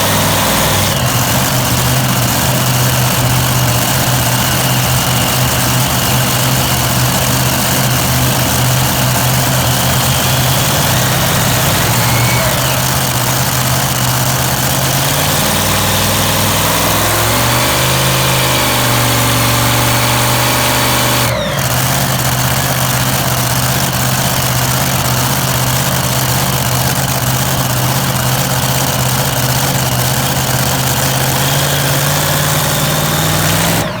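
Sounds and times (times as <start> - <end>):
tractor engine revving: 0.0 - 34.0.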